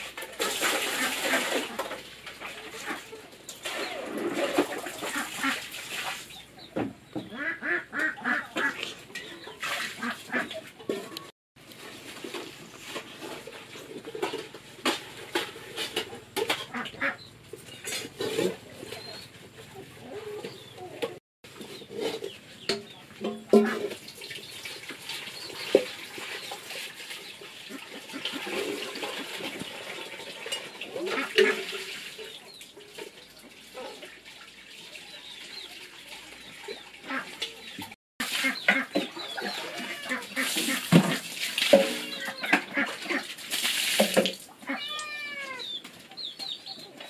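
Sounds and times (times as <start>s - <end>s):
chickens clucking: 0.4s - 43.4s, 44.5s - 47.0s.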